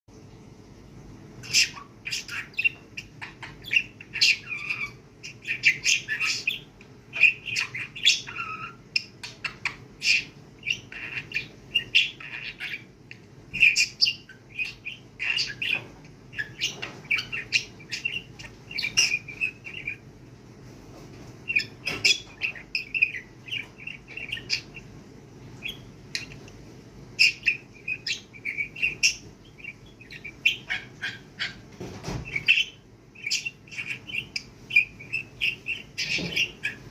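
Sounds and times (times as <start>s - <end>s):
budgerigar chattering: 1.4s - 20.0s, 21.5s - 24.9s, 27.2s - 36.9s.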